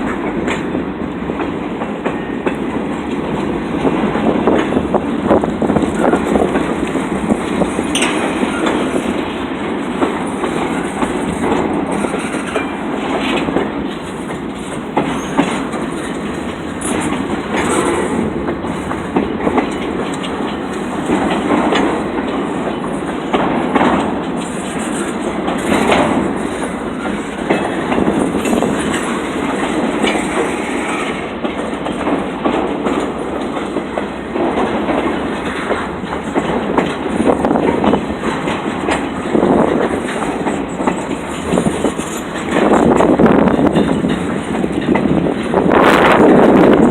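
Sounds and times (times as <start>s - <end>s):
train wheels clacking over rail joints: 0.0s - 46.9s.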